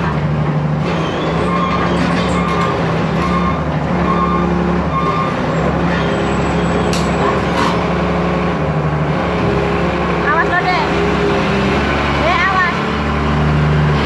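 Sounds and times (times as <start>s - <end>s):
diesel machinery running: 0.0s - 14.0s.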